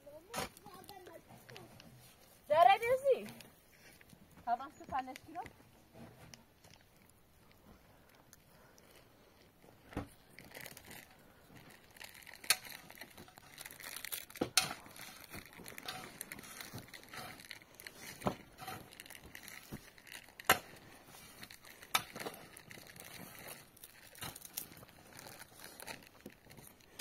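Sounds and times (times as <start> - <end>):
crinkling rustling handling noise: 0.0 - 27.0.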